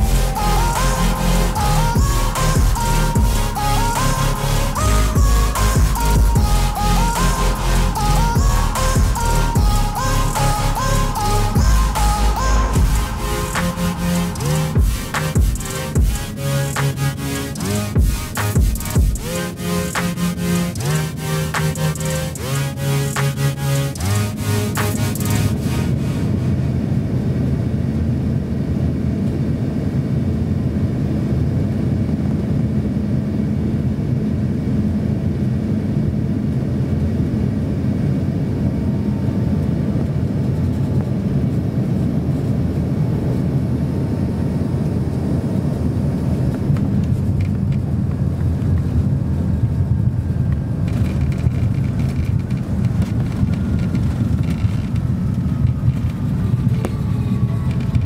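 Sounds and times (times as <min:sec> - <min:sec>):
jet engines and rushing air: 0:00.0 - 0:58.0.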